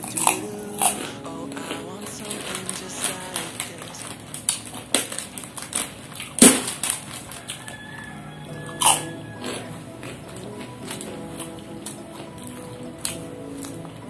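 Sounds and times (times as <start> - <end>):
soft background music: 0.0 - 5.8, 7.1 - 14.0
crackers crunching: 0.0 - 14.0.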